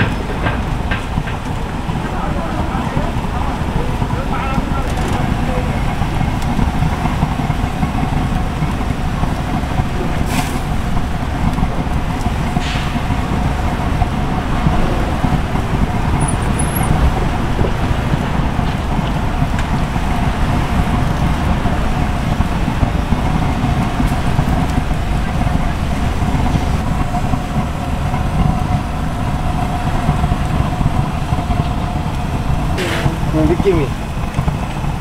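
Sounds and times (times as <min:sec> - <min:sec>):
gas burner roaring: 0:00.0 - 0:35.0.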